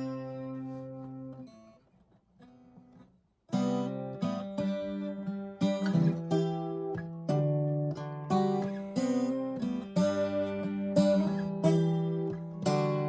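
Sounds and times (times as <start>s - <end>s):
acoustic guitar strumming: 0.0s - 1.8s, 2.4s - 13.0s.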